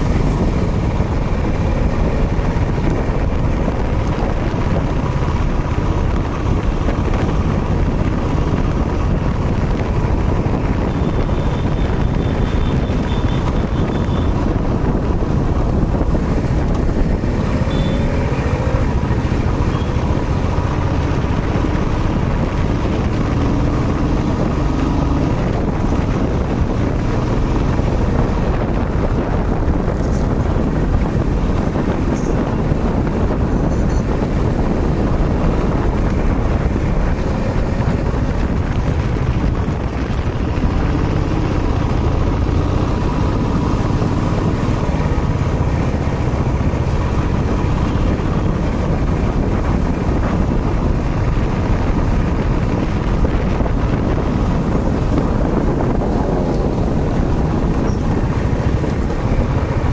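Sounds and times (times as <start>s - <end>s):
motorcycle running: 0.0s - 59.9s
wind buffeting microphone: 0.0s - 59.9s.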